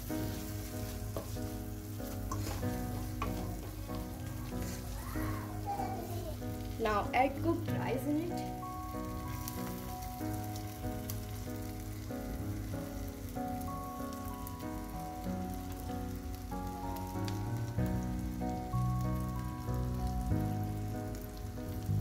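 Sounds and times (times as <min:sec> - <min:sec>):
background music of held chords: 0:00.0 - 0:22.0
spices sizzling in a pan: 0:00.0 - 0:22.0.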